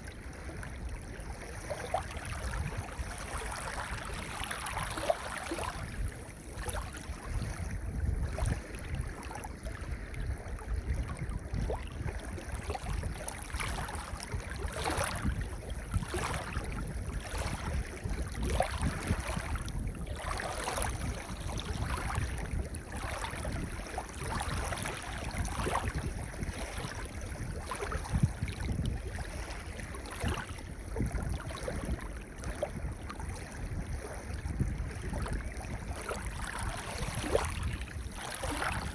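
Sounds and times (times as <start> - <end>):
waves washing onto beach: 0.0 - 38.9.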